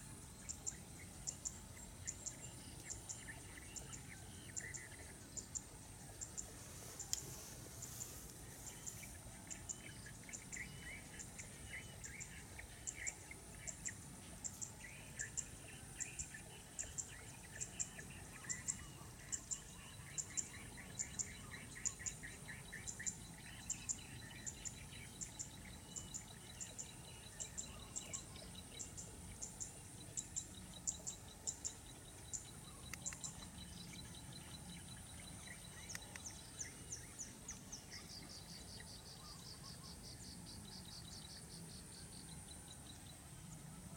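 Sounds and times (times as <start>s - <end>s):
insects droning: 0.0s - 43.9s
small birds chirping: 0.0s - 43.9s.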